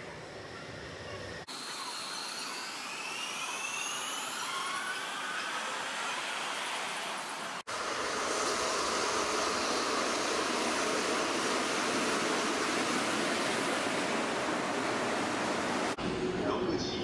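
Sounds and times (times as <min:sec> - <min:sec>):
passing commuter train: 0:00.0 - 0:17.0
freight train wheels on rails: 0:03.0 - 0:17.0.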